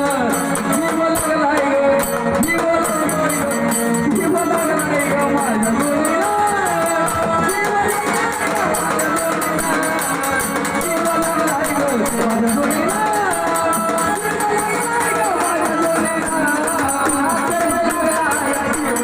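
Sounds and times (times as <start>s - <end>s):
jingling percussion: 0.0s - 19.0s
person singing ornamented melody: 0.0s - 19.0s.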